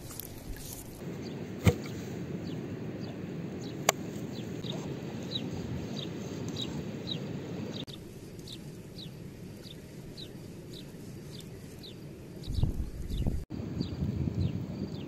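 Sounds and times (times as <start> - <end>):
bird chirping: 1.2 - 15.0.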